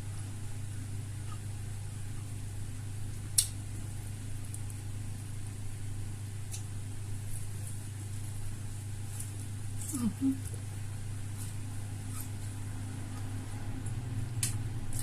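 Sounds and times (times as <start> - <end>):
quiet eating at a table: 0.0 - 15.0.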